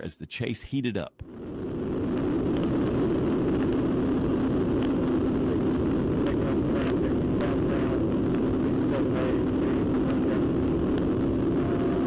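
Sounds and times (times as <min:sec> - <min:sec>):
vehicle driving at high speed: 0:01.3 - 0:12.0.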